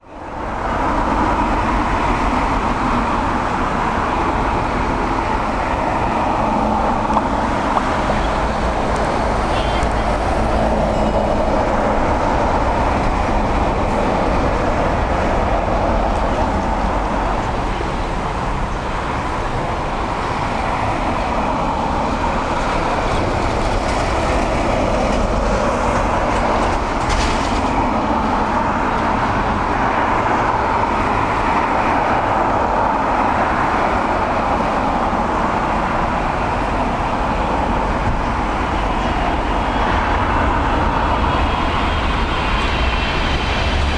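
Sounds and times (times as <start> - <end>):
jet engines rumbling: 0.2 - 43.9.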